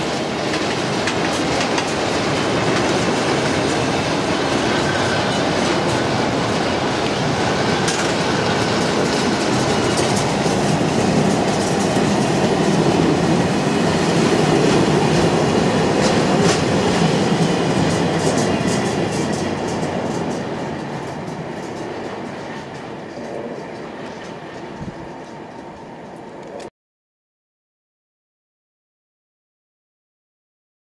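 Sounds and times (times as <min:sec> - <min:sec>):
train wheels rumbling: 0:00.0 - 0:26.7.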